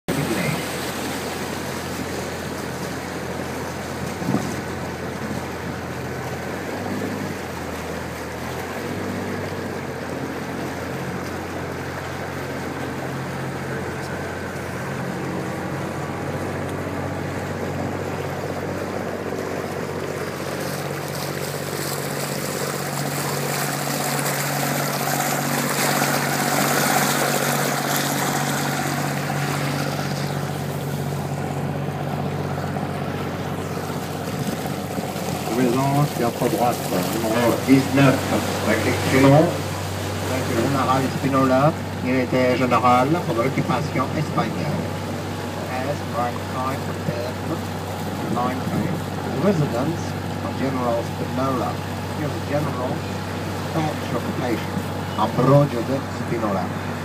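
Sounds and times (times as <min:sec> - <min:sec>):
boat motor running: 0:00.0 - 0:57.0
water rushing along hull: 0:00.0 - 0:57.0.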